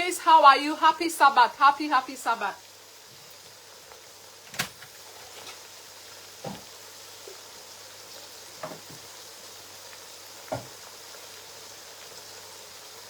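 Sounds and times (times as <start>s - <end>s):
oil sizzling in a pot: 0.0s - 13.0s.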